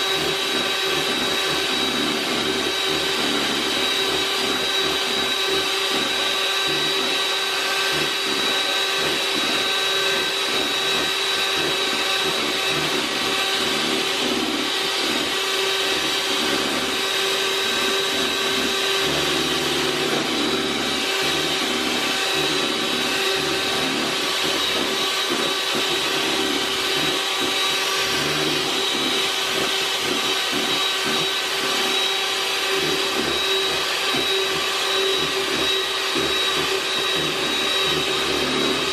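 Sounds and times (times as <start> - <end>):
electric hand mixer whirring: 0.0 - 38.9.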